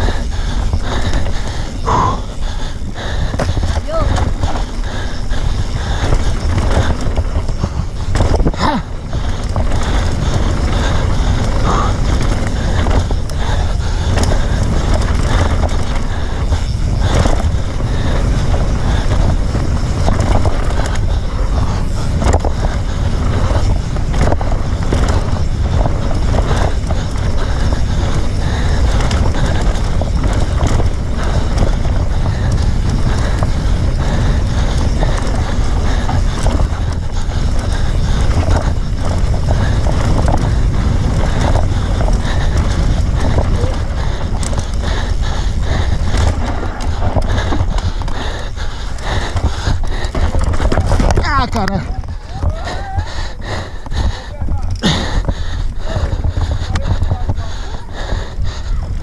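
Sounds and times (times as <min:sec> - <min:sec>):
tyres and wind rumble: 0:00.0 - 0:59.0.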